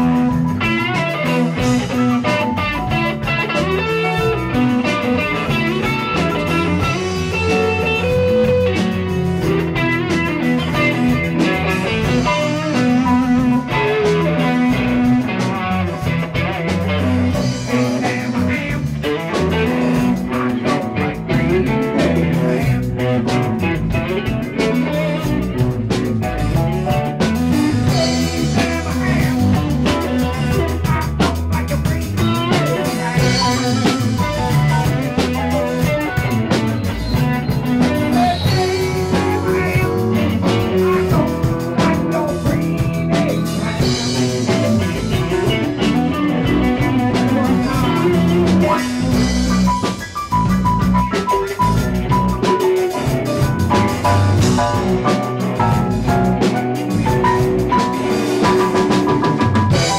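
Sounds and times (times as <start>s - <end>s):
live blues-rock band playing: 0.0s - 59.9s.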